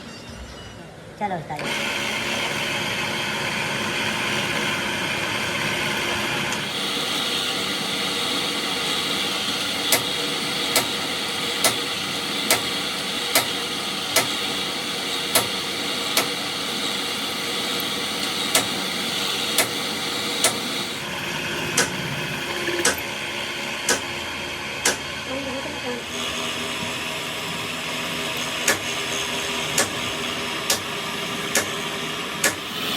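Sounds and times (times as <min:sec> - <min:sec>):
machinery hum: 0:03.1 - 0:32.9.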